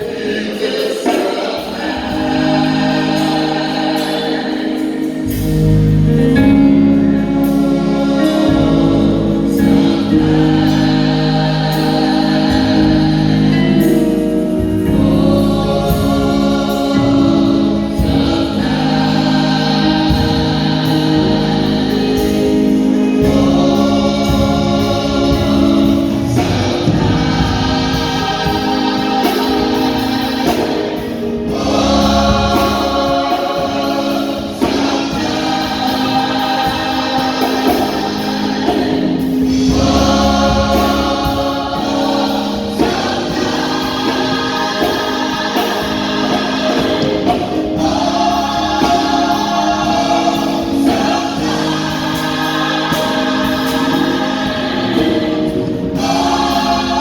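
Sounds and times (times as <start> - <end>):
choir singing in harmony: 0.0 - 57.0.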